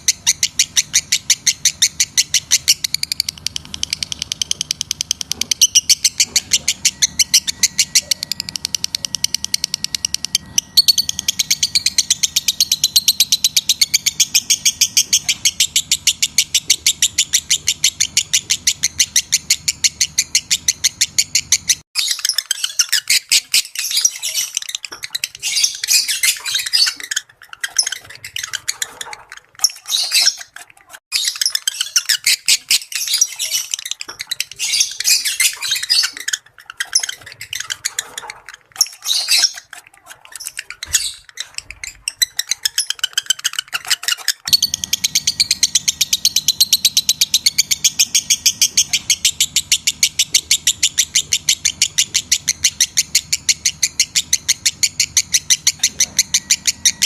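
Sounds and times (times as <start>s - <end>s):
fast repeated chirping: 0.0s - 39.8s, 40.5s - 57.0s
birds chattering and squawking: 0.0s - 57.0s.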